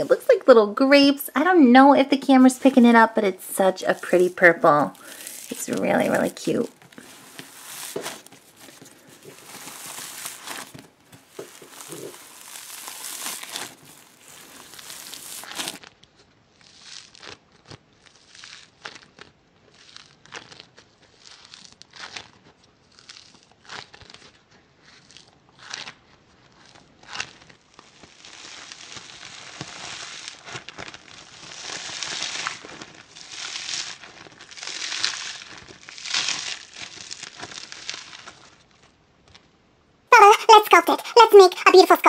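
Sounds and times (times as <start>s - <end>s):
foam beads crackling and crunching: 0.0s - 38.9s.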